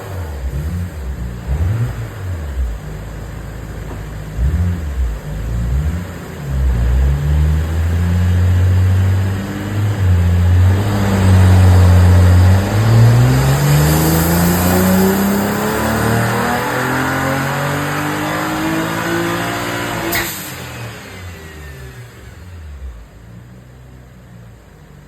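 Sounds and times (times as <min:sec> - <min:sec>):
car engine revving on a dyno: 0:00.0 - 0:23.3.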